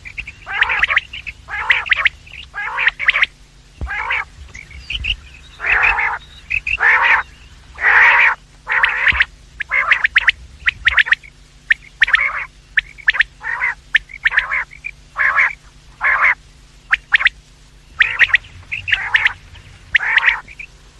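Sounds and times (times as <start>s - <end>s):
quail calling: 0.0s - 20.8s
faint low hum: 0.0s - 20.9s.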